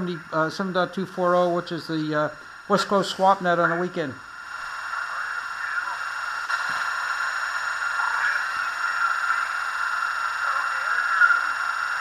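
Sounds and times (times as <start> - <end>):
radio band noise hiss: 0.0 - 12.0.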